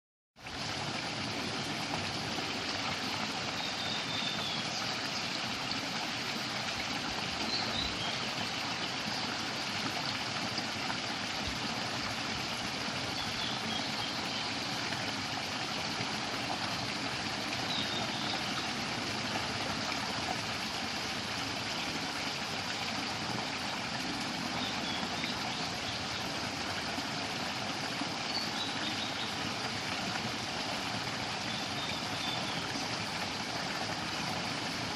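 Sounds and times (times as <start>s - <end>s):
stream flowing: 0.4s - 34.9s.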